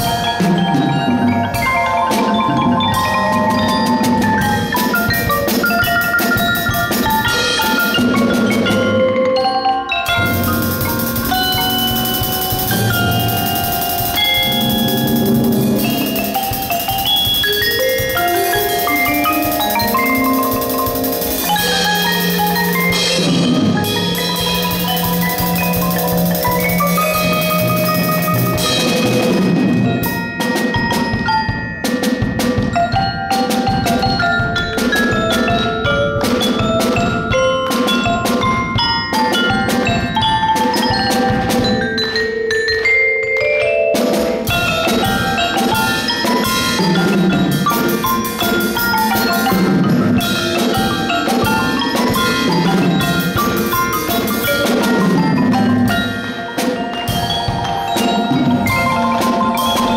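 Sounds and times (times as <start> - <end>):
drums and cymbal: 0.0 - 9.0, 10.0 - 42.2, 43.9 - 59.9
marimbas and xylophones playing: 0.0 - 59.9.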